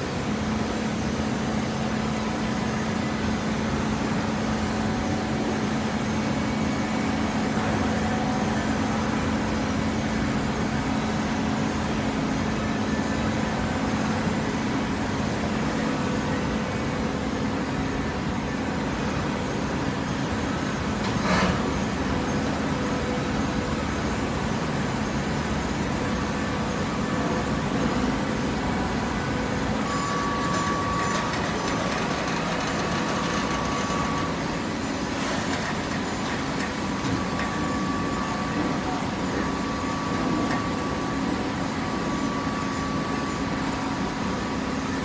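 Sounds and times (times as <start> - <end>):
hydraulic baler humming: 0.0 - 45.0.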